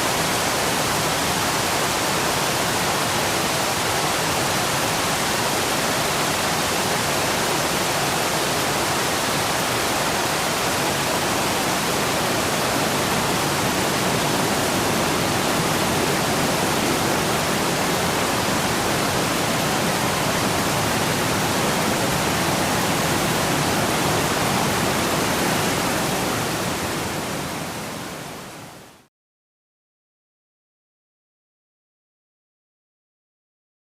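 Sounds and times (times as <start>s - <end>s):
rain falling on water: 0.1s - 28.8s.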